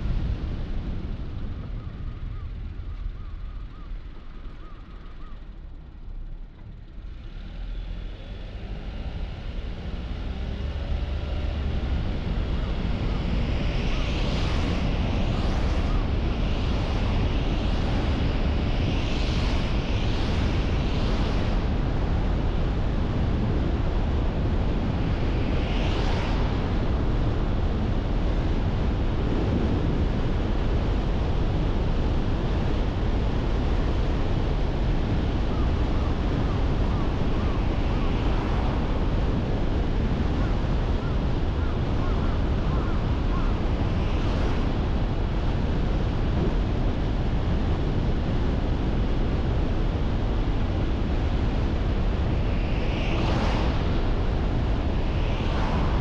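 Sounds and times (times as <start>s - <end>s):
road and tyre rumble: 0.0s - 56.0s
wind buffeting microphone: 9.2s - 56.0s.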